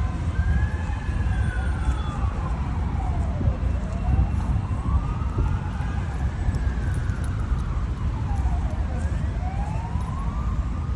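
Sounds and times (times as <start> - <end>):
emergency vehicle siren wailing: 0.0 - 10.9
heavy road traffic rumble: 0.0 - 10.9.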